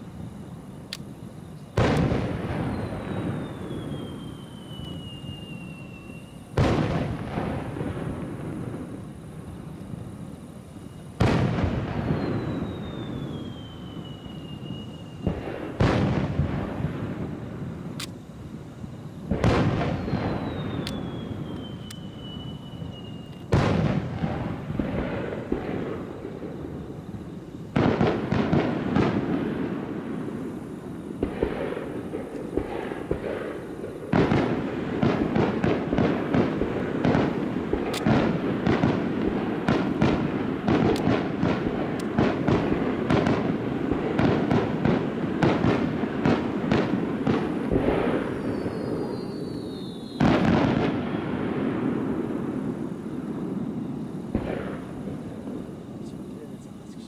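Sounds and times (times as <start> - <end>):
firework crackling and popping: 0.0 - 57.0
falling firework whistle: 1.5 - 9.6, 10.6 - 17.8, 19.3 - 57.0.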